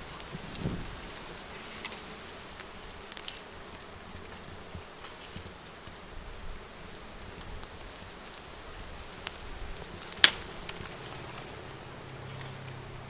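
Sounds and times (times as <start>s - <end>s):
twigs cracking: 0.0s - 6.0s, 7.3s - 13.0s
bees buzzing: 0.0s - 13.0s.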